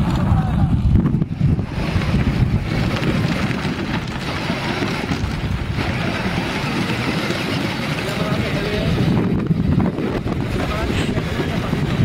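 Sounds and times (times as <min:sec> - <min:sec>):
toy jeep rolling on gravel: 0:00.0 - 0:12.0
wind buffeting microphone: 0:00.0 - 0:12.0.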